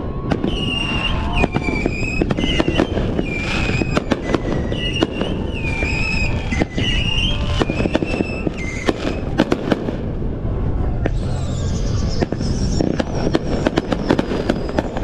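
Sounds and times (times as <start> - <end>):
high whistling tone: 0.0 - 9.4, 10.8 - 15.0
fireworks bangs and crackles: 0.0 - 15.0.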